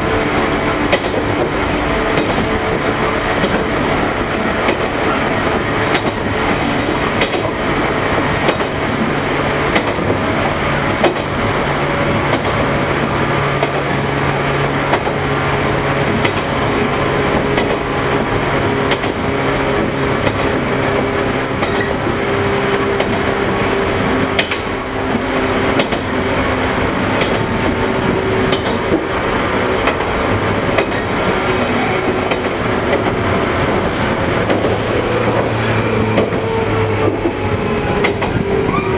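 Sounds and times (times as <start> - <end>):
electric train motors humming: 0.0 - 38.9
wheels rumbling on rails: 0.0 - 38.9.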